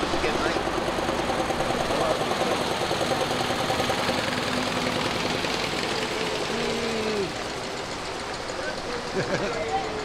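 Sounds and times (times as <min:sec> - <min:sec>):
old car engine chugging past: 0:00.0 - 0:10.0.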